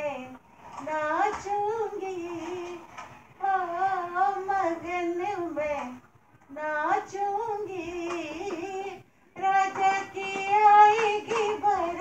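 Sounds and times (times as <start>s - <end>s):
woman singing slow melody: 0.0s - 12.0s.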